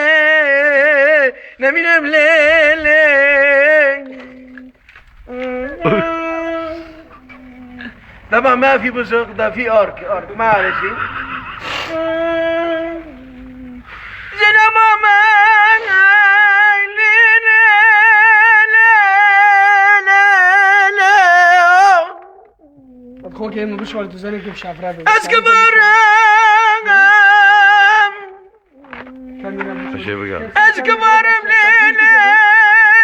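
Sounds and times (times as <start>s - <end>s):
man singing wailing folk song: 0.0s - 22.2s, 25.1s - 28.3s, 28.9s - 33.0s.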